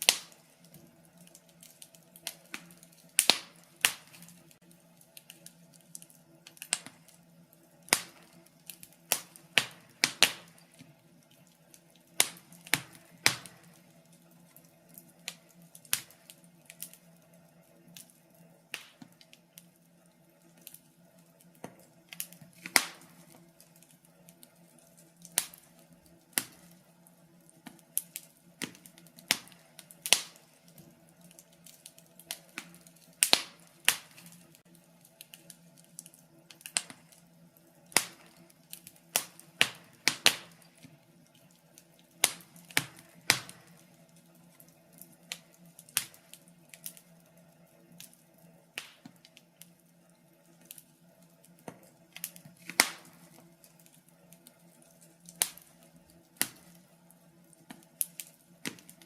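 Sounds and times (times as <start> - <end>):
faint steady hum: 0.0 - 59.0
wood fire popping and snapping: 0.0 - 59.0.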